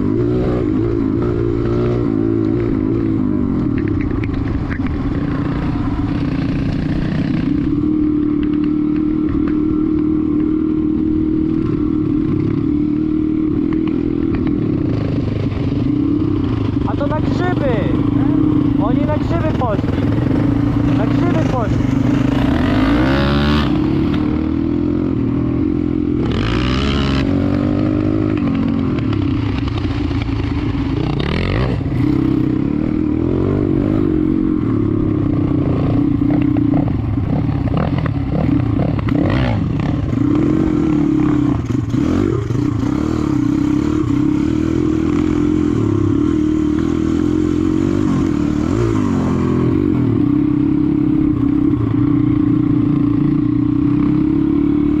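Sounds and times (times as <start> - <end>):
dirt bike engine revving: 0.0 - 3.9, 5.0 - 55.0.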